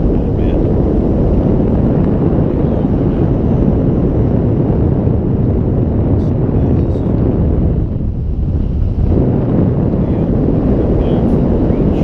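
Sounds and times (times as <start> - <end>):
vehicle rumble and wind noise: 0.0 - 12.0.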